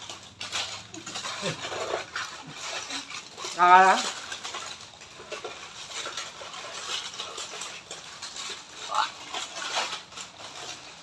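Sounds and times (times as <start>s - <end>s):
wet chewing mouth sounds: 0.1s - 10.9s.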